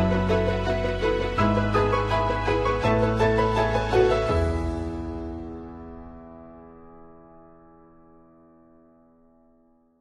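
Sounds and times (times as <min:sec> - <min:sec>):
background music held chord: 0:00.0 - 0:09.7.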